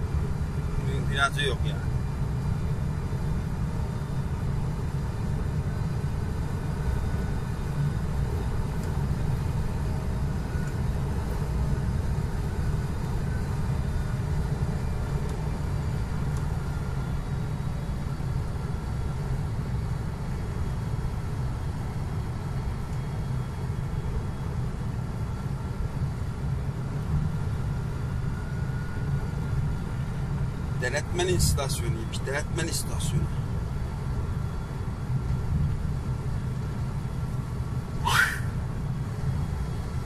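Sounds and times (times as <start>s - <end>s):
truck engine and tyres rumbling: 0.0s - 40.0s.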